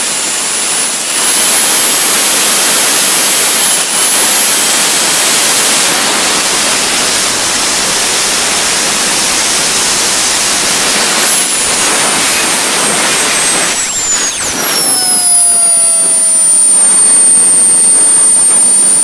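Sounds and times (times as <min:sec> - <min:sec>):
jet turbine exhaust rushing: 0:00.0 - 0:19.0
turbine high whine: 0:00.0 - 0:19.0.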